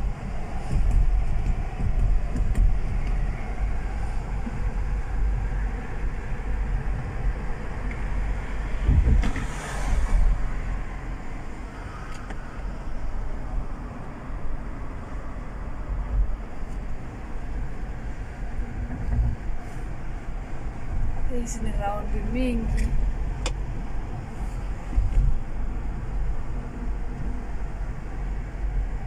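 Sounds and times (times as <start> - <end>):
car cabin road rumble: 0.0 - 29.0
rush of noise: 0.0 - 29.0.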